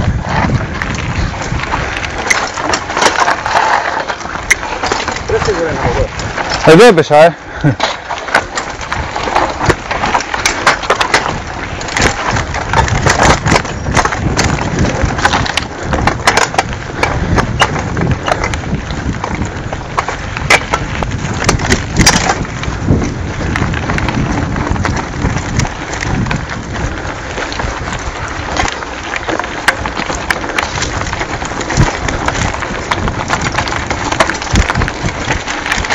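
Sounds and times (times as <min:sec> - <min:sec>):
bike rattling and knocking: 0:00.0 - 0:35.9
tyres crunching over gravel: 0:00.0 - 0:35.9
wind rumble on microphone: 0:00.0 - 0:35.9.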